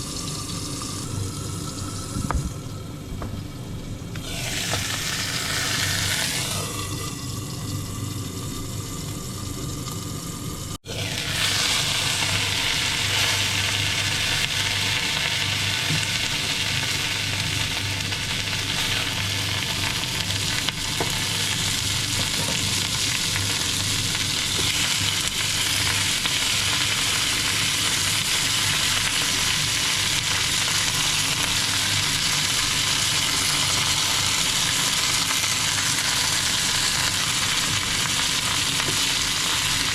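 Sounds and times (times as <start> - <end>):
food sizzling in a pan: 3.8 - 39.9.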